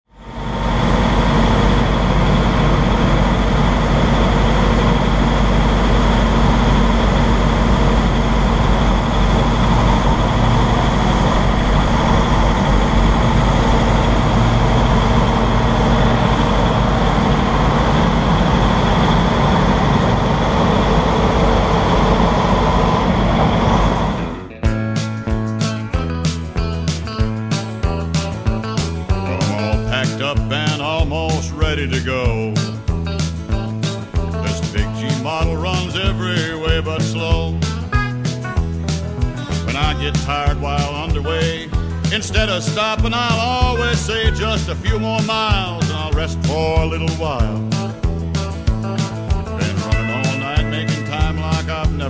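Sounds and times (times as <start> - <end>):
heavy truck engine rumble: 0.1 - 52.0.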